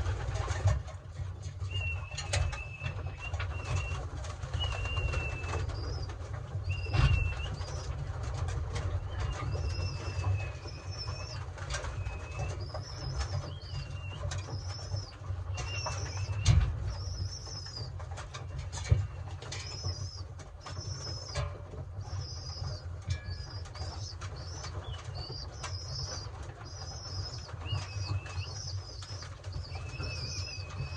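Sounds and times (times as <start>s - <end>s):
wings flapping: 0.0s - 30.9s
pigeons cooing: 1.7s - 30.9s.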